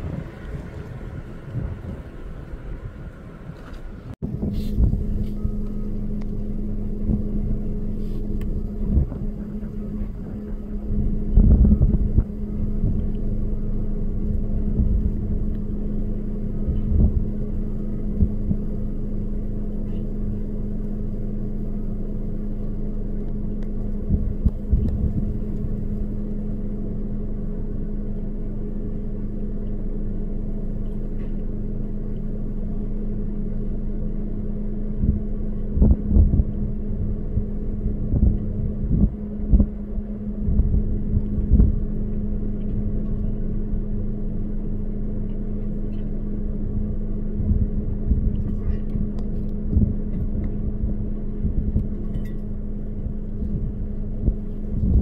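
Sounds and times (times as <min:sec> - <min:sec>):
low rumble in gusts: 0:00.0 - 0:55.0
vehicle engine humming: 0:00.0 - 0:55.0.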